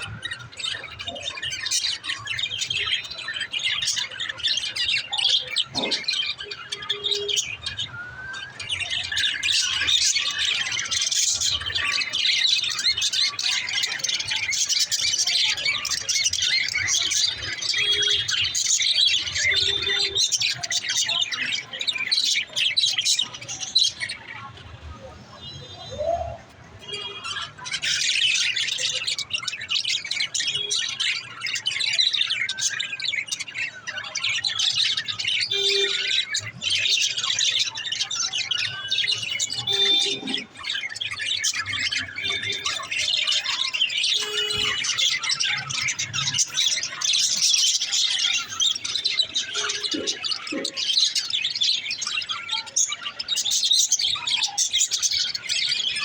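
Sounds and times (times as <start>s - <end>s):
budgerigars chirping: 0.0s - 7.9s, 8.5s - 24.5s, 27.4s - 56.0s.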